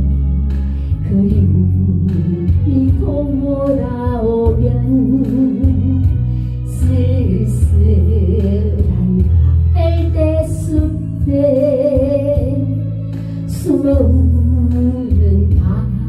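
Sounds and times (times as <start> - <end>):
steady bass beat: 0.0 - 13.2.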